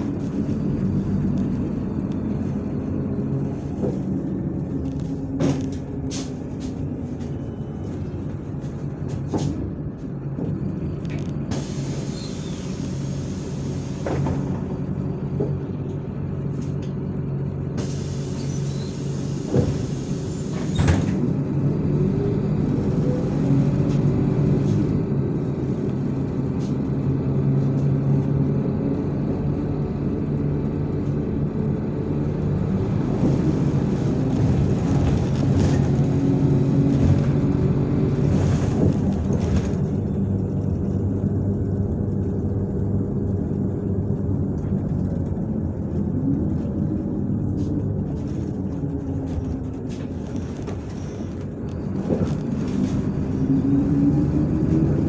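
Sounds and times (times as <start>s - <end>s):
bus engine running: 0.0s - 55.0s
road and tyre noise: 0.0s - 55.0s.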